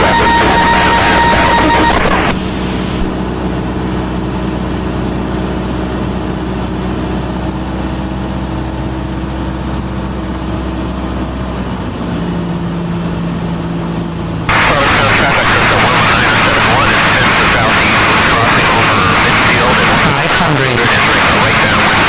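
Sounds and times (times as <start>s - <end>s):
propeller plane engine drone: 0.0s - 22.0s.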